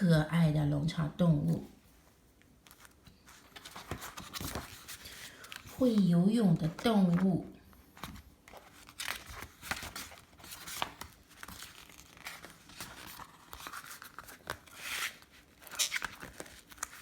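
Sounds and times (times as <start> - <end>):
paper rustling and crinkling: 1.9 - 17.0.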